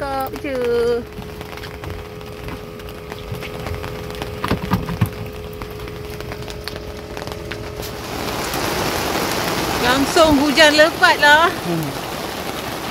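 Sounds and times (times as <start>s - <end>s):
faint steady hum: 0.0s - 12.9s
raindrops ticking on boat and water: 0.0s - 12.9s.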